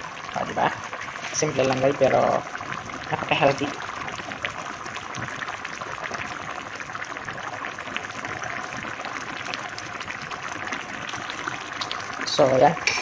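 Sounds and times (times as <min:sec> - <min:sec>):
stew bubbling and popping: 0:00.0 - 0:13.0.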